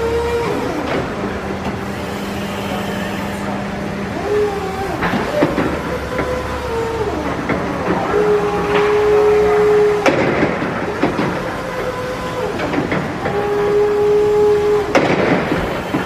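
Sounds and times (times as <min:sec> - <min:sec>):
electric hydraulic pump humming: 0:00.0 - 0:16.0
mechanical clunks: 0:00.0 - 0:16.0.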